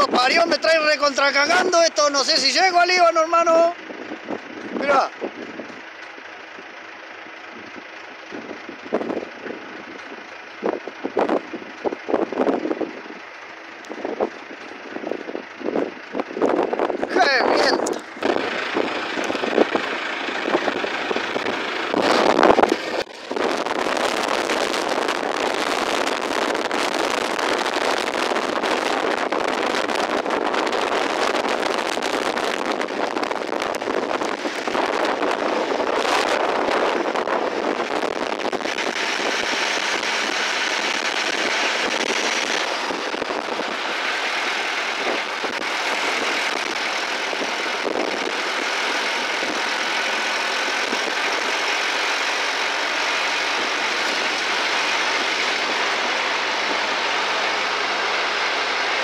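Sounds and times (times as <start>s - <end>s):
storm wind rushing against car: 0.0s - 5.9s, 6.5s - 59.0s.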